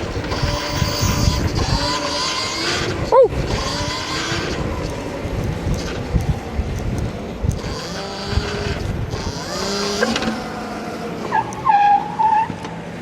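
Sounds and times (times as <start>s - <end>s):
wind buffeting microphone: 0.0s - 11.2s
electric motor whine: 0.0s - 11.7s.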